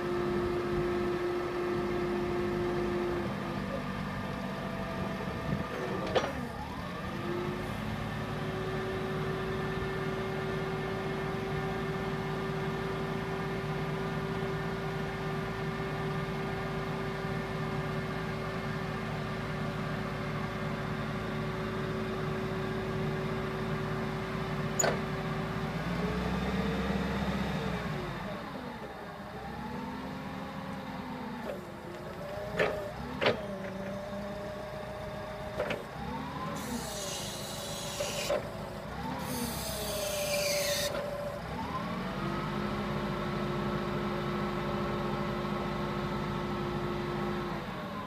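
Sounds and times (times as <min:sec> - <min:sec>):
forklift engine running: 0:00.0 - 0:48.0.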